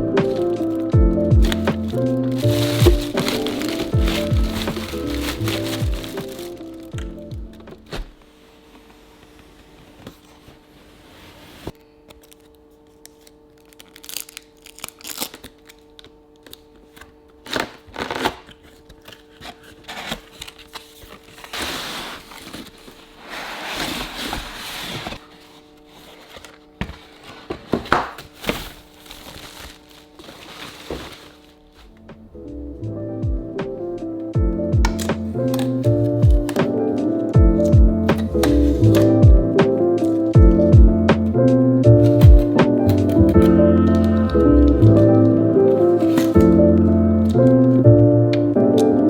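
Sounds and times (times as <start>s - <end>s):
plastic and paper crinkling: 0.0s - 32.1s, 34.9s - 40.4s, 41.8s - 47.8s.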